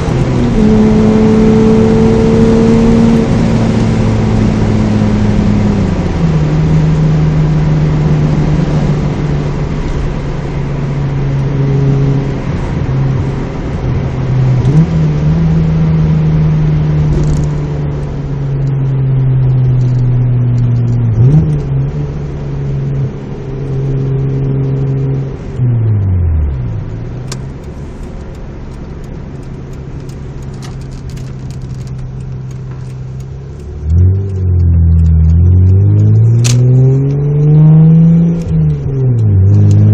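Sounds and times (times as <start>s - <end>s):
car engine droning and revving: 0.0s - 39.9s.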